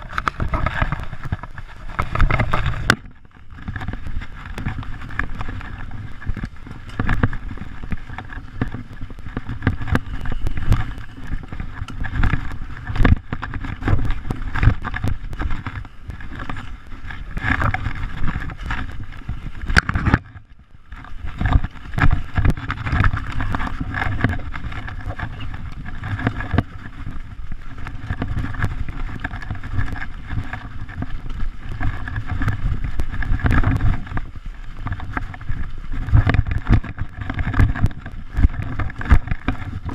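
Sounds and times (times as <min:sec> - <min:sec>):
bike rattles and knocks: 0:00.0 - 0:39.9
bike tyres rumbling on dirt: 0:00.0 - 0:39.9
wind on microphone: 0:00.0 - 0:39.9.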